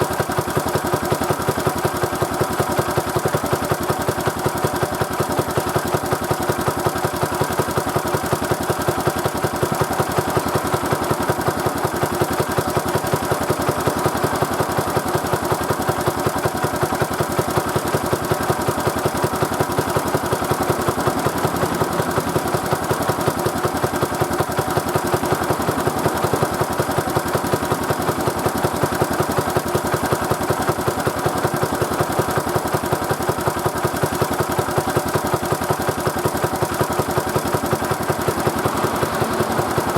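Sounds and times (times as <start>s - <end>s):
air-cooled engine running: 0.0s - 39.9s.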